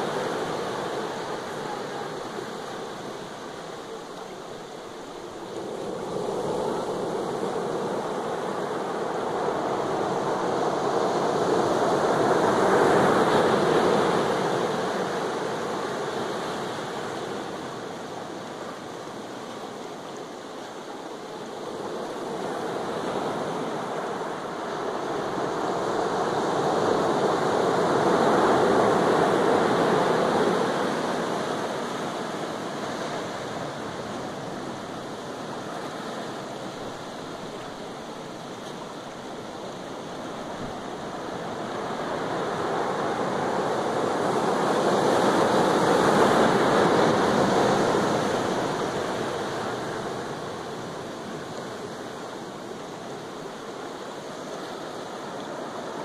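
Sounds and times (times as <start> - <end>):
surf breaking on a beach: 0.0 - 56.0.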